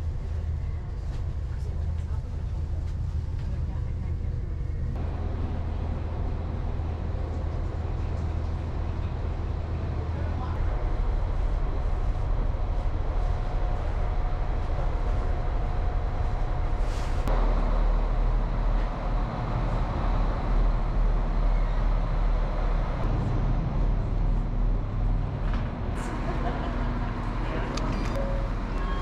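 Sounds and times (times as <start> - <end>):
diesel train idling rumble: 0.0 - 29.0.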